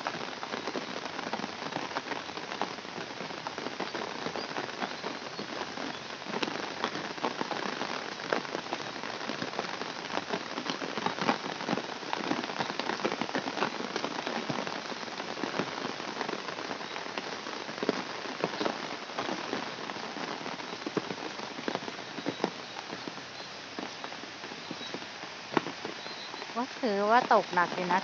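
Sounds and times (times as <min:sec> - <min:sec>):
rain on concrete road: 0:00.0 - 0:28.0
raindrops hitting an umbrella: 0:00.0 - 0:28.0.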